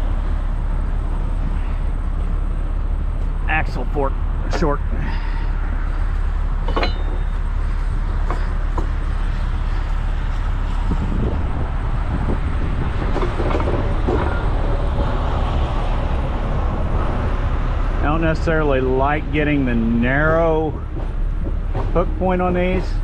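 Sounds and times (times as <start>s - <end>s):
diesel engine rumbling: 0.0s - 23.0s.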